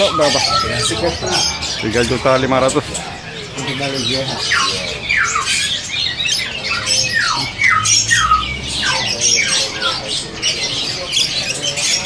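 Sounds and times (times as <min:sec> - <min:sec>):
songbirds chirping and calling: 0:00.0 - 0:12.0.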